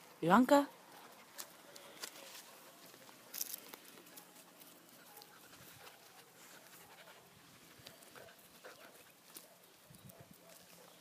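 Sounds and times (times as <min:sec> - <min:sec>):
small clicks and rustles: 0:01.0 - 0:06.8, 0:07.7 - 0:11.0.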